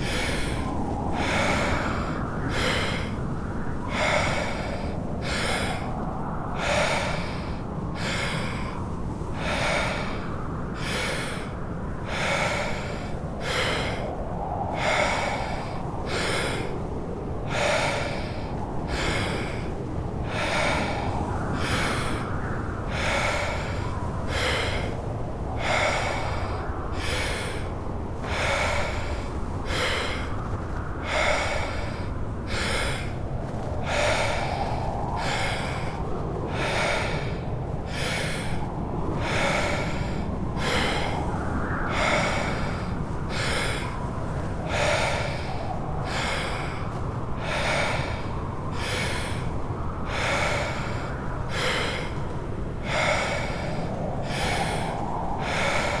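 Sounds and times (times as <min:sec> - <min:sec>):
person breathing deeply and rapidly: 0:00.0 - 0:56.0
snowstorm wind: 0:00.0 - 0:56.0.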